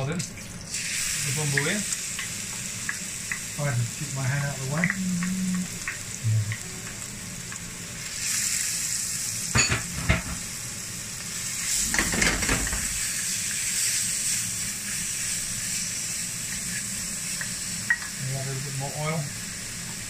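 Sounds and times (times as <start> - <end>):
spice paste sizzling in hot oil: 0.0 - 20.0.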